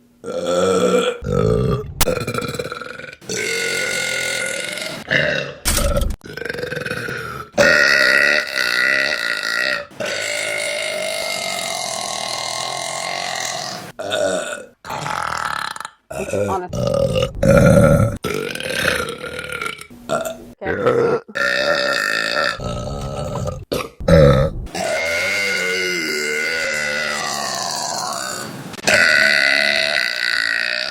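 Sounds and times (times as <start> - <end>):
women burping: 0.3 - 30.9.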